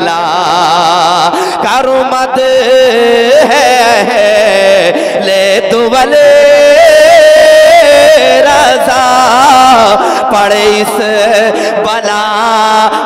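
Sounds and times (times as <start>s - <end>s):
man singing melismatic melody: 0.0s - 13.0s.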